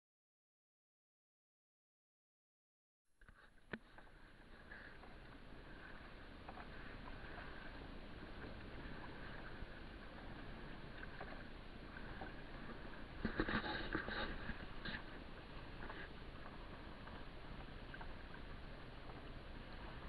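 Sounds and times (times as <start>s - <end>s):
water rushing along hull: 3.3s - 20.0s.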